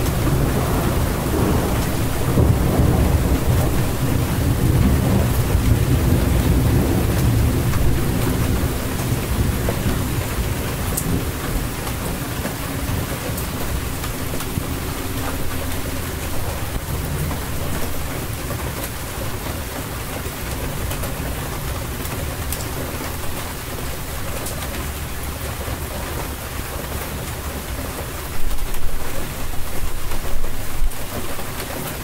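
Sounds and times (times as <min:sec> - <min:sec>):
thunder rumbling: 0:00.0 - 0:26.4
heavy rain: 0:00.0 - 0:32.0.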